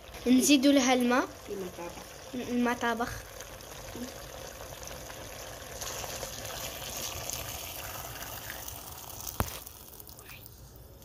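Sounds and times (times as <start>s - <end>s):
water pouring into pot: 0.0s - 11.0s.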